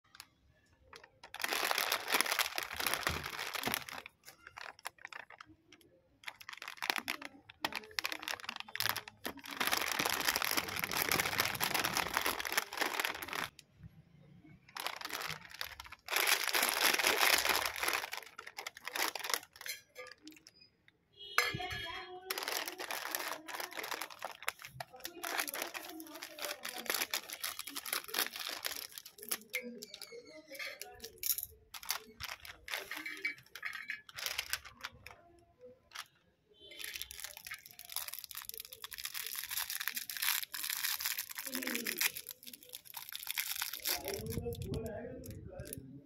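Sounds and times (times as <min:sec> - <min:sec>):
plastic snack packet crinkling: 0:00.1 - 0:13.7, 0:14.6 - 0:20.7, 0:21.4 - 0:45.9.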